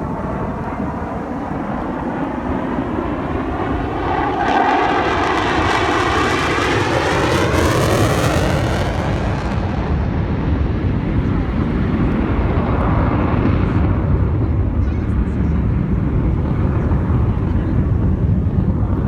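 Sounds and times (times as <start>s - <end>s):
jet aircraft passing: 0.0s - 19.0s.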